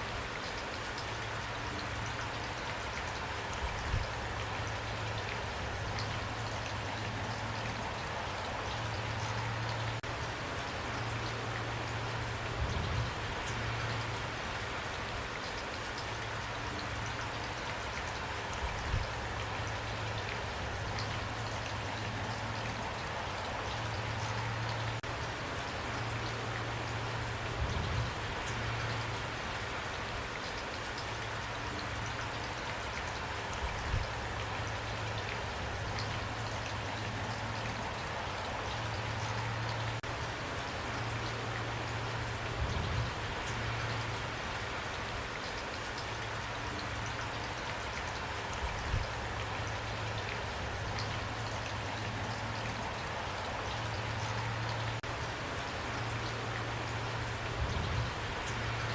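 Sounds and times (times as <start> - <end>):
rain pattering on a surface: 0.0 - 58.9.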